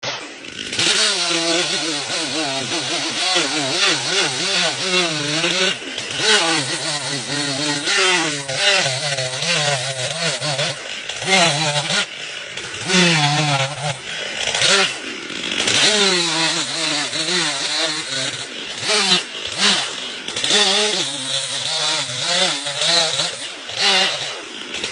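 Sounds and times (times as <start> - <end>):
power saw cutting wood: 0.0 - 24.9.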